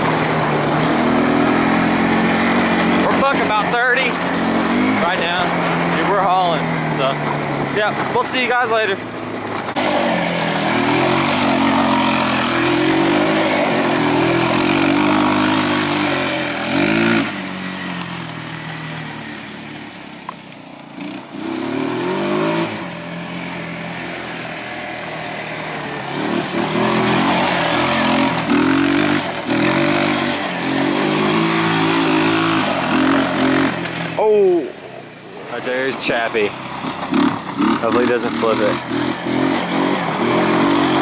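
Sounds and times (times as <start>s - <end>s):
small vehicle engine under load: 0.0s - 41.0s.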